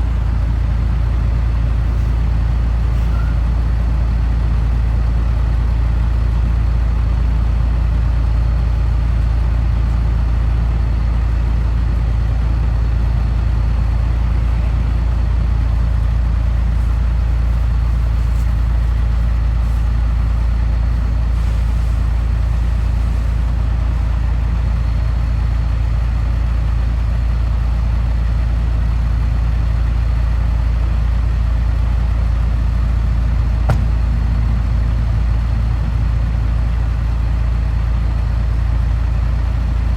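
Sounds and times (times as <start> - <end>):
truck engine low rumble: 0.0 - 39.9.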